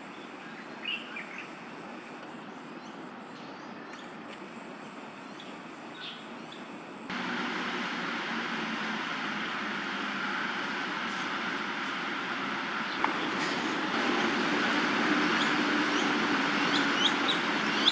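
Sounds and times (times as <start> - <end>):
distant city traffic hum: 0.0 - 17.9.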